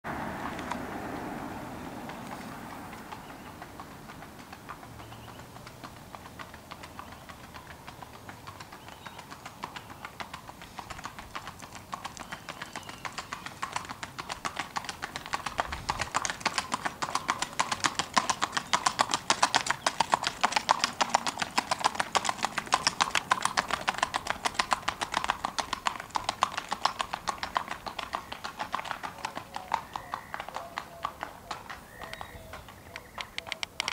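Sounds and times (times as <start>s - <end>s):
horse hoofbeats on asphalt: 0.1s - 33.9s.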